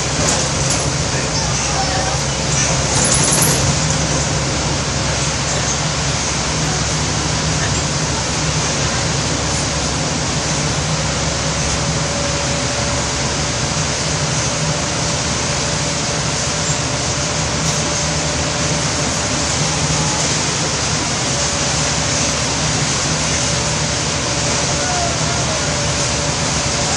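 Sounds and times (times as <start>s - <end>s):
heavy rain falling: 0.0s - 26.9s
low vehicle engine hum: 0.0s - 26.9s.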